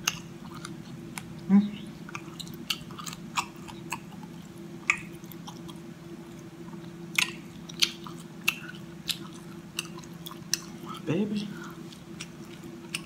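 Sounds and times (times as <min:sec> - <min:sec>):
close chewing with mouth clicks: 0:00.0 - 0:13.0
steady low hum: 0:00.0 - 0:13.0.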